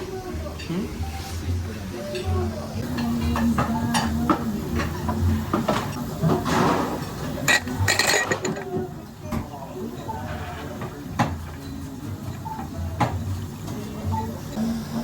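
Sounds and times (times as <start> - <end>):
busy background voices: 0.0 - 15.0.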